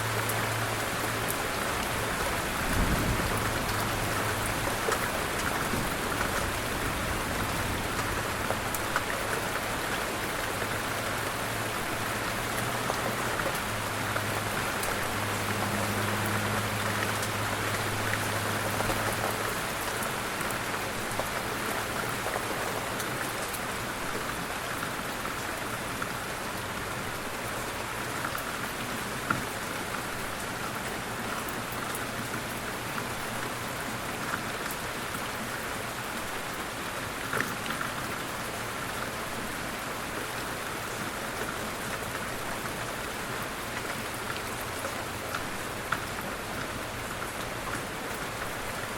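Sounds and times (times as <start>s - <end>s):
light rain pattering: 0.0s - 48.9s.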